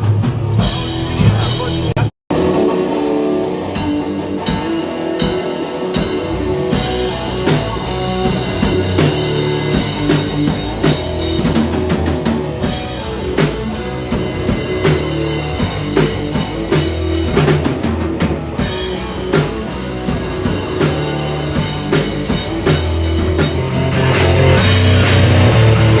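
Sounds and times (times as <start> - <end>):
rock music: 0.0 - 26.0.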